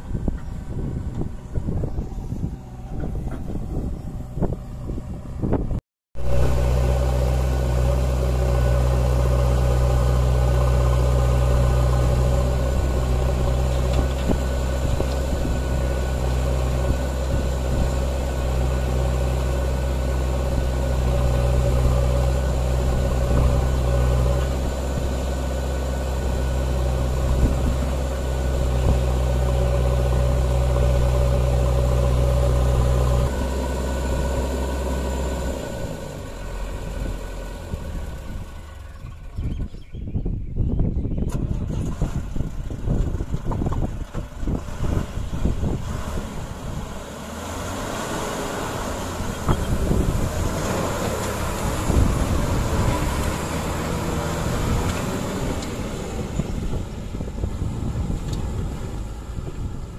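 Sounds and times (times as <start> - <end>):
diesel engine running: 0.0 - 40.4, 41.2 - 59.9.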